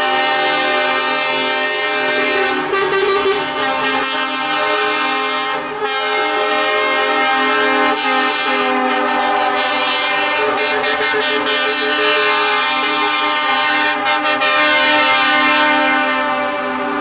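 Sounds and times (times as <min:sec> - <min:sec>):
truck air horns chord: 0:00.0 - 0:17.0.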